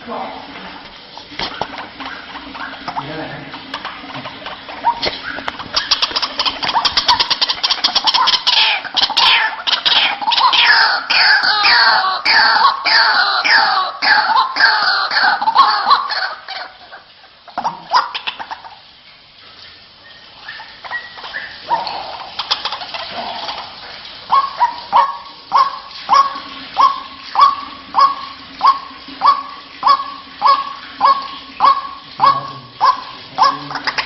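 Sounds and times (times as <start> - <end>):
bird croaking calls: 4.8 - 18.8, 20.0 - 23.7, 24.3 - 34.0.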